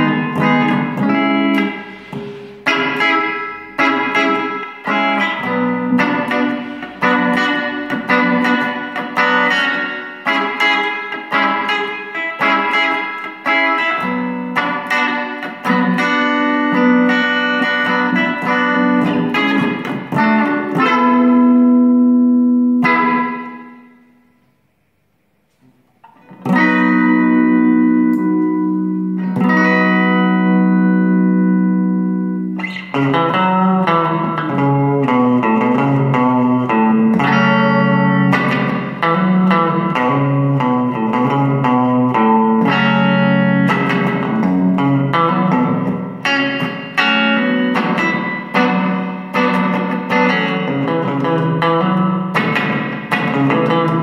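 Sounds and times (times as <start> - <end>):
quickly picked guitar notes: 0.0 - 24.2, 26.0 - 54.0
electric guitar chords: 0.0 - 54.0.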